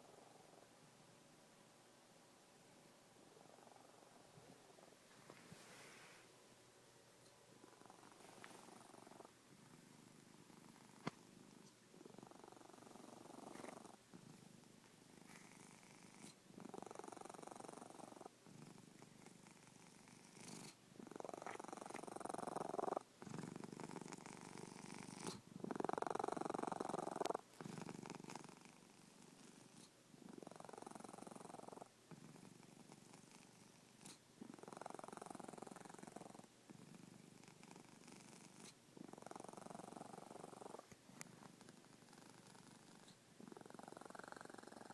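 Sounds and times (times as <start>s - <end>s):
cat snoring: 7.6s - 44.9s.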